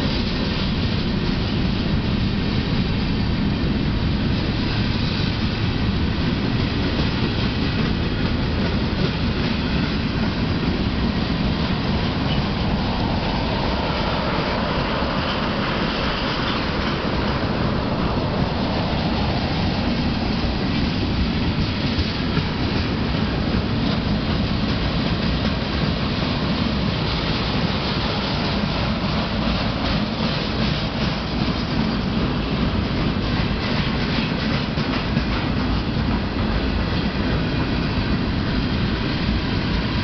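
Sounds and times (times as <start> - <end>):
faint clickety-clack of wheels: 0.0 - 40.0
steel train wheels rumbling on rail: 0.0 - 40.0.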